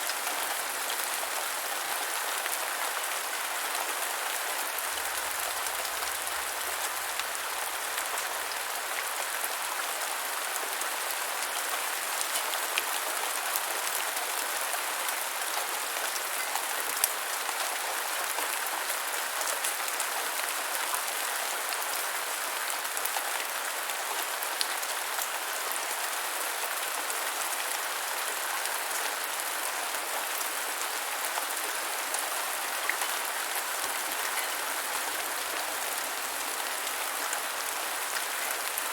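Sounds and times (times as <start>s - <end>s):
gentle rainfall patter: 0.0s - 38.9s.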